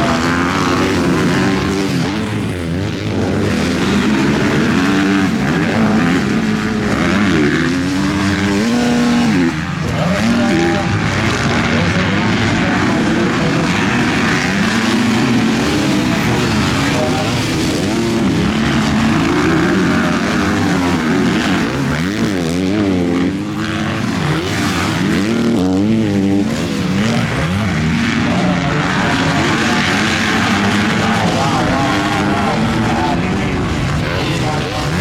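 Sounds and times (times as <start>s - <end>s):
motocross bike engines revving: 0.0s - 35.0s.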